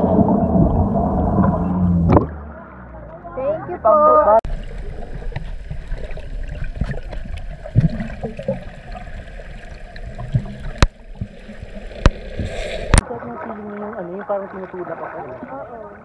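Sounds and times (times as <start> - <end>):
muffled underwater water rumble: 0.0 - 16.0.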